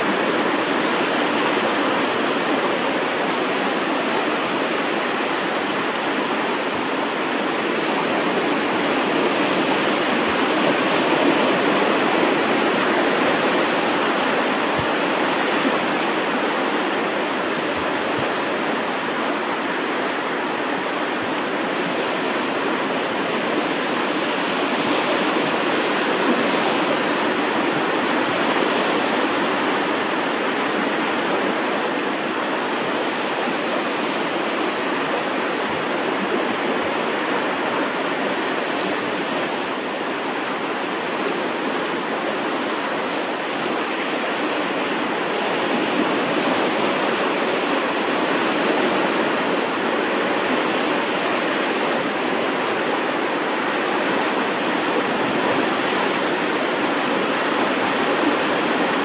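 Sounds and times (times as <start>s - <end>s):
surf washing over rocks: 0.0s - 59.0s.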